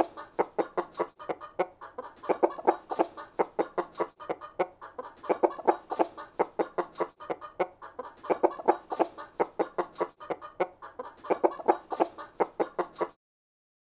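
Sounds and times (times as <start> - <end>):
chickens making short calls: 0.0 - 13.2.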